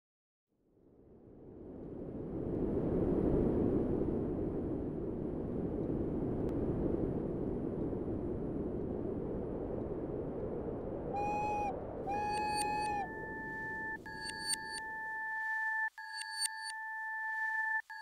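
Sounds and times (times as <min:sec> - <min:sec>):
howling wind: 0:00.8 - 0:15.2.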